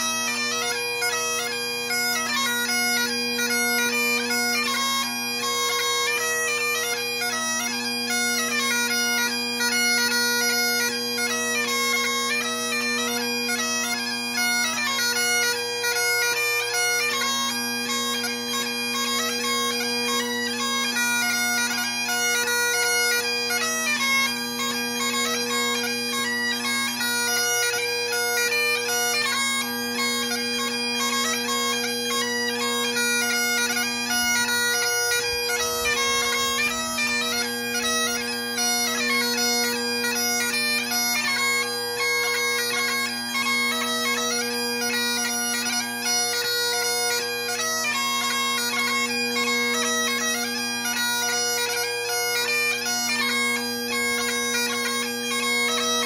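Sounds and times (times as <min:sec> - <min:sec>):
bagpipe playing a hornpipe: 0:00.0 - 0:56.0.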